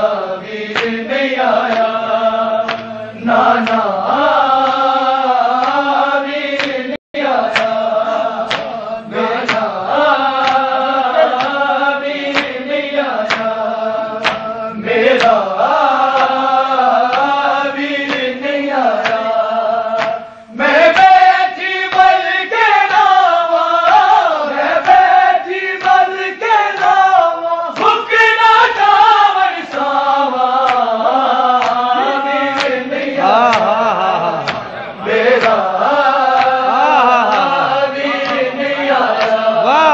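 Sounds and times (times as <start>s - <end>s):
men chanting in unison: 0.0s - 39.9s
sharp rhythmic strikes: 0.0s - 39.9s.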